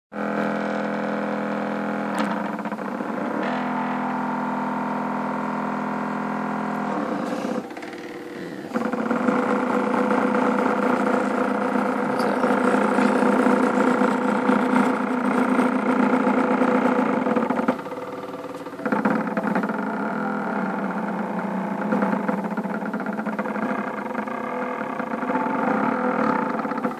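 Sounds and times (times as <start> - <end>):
machine motors whining: 0.2 - 26.9.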